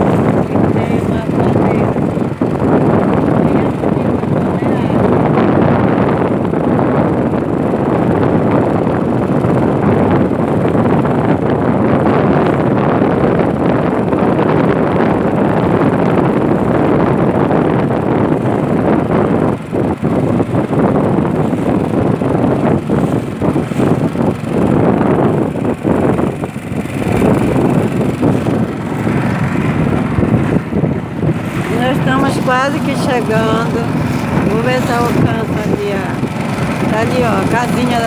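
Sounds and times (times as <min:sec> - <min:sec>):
strong wind blasting microphone: 0:00.0 - 0:38.0.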